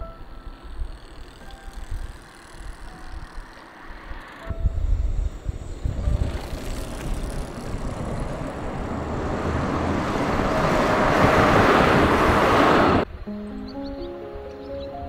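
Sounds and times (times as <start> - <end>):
passing vehicle rumble and hiss: 0.0 - 13.1.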